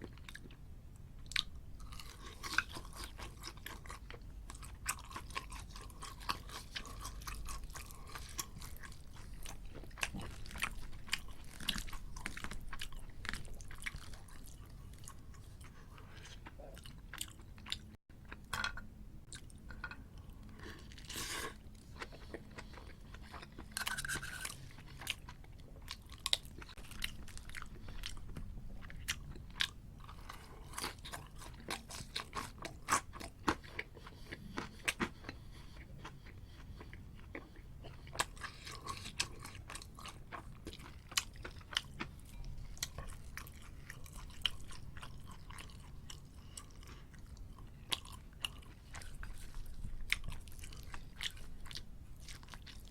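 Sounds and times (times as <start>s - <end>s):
chewing crispy fried pork: 0.0s - 18.0s, 20.4s - 52.9s.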